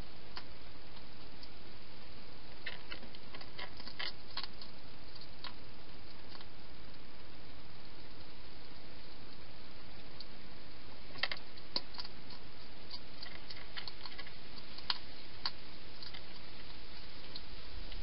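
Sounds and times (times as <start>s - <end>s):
steady hiss: 0.0s - 18.0s
hedgehog chewing dry food: 2.5s - 10.4s, 11.0s - 18.0s.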